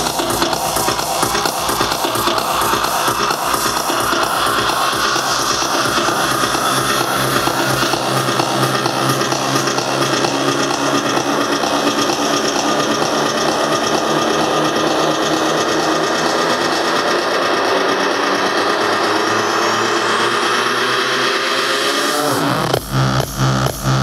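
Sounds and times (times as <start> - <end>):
rising synth sweep: 0.0 - 23.3
loud psytrance music: 0.0 - 24.0.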